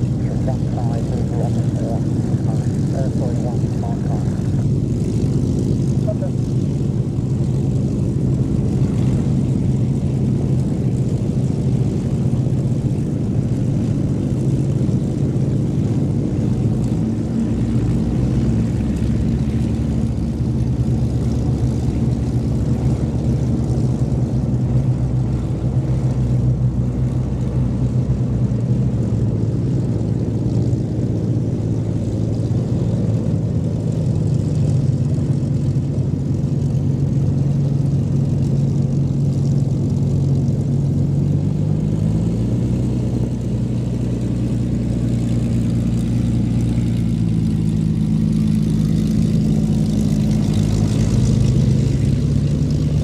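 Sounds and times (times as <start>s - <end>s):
piston aircraft engines droning: 0.0s - 53.0s.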